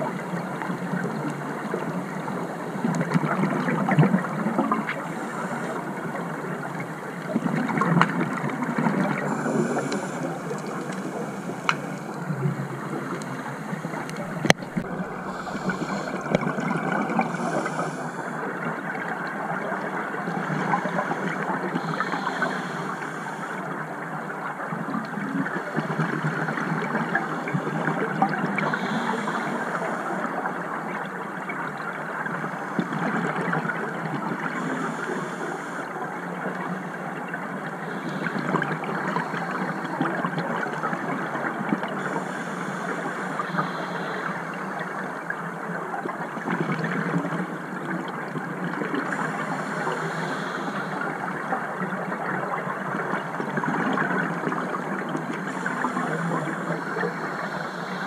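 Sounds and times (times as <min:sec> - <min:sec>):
underwater bubbling: 0:00.0 - 0:58.0.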